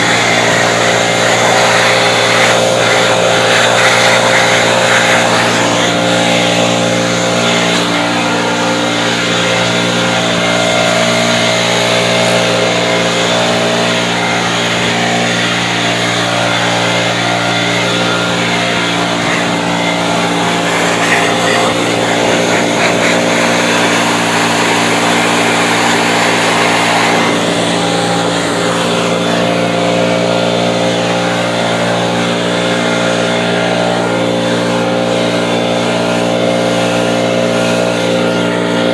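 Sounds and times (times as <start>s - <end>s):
snow blower running: 0.0s - 38.9s.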